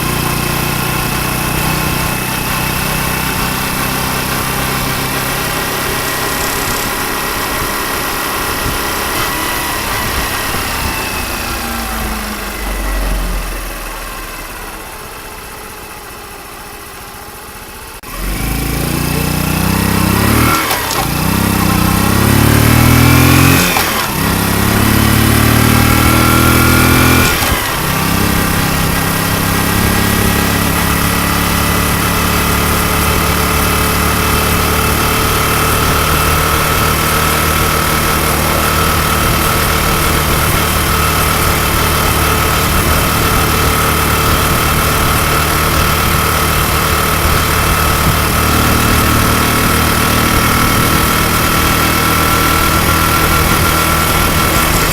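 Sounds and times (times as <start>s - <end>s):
motorcycle engine idling: 0.0s - 23.0s, 27.5s - 54.9s
motorcycle engine revving: 0.0s - 54.9s.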